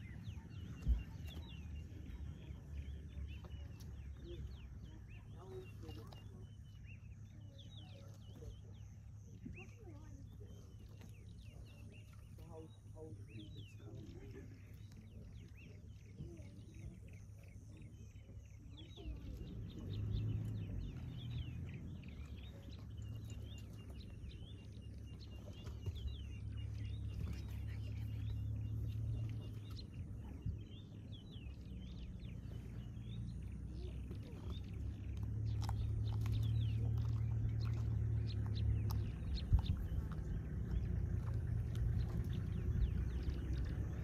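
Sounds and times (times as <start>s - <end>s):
low steady rumble: 0.0s - 44.0s
small birds chirping: 0.0s - 44.0s.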